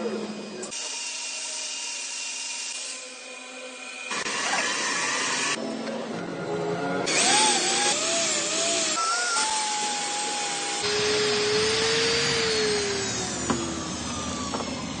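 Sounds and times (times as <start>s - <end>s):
lathe drive motors whining: 0.0s - 15.0s.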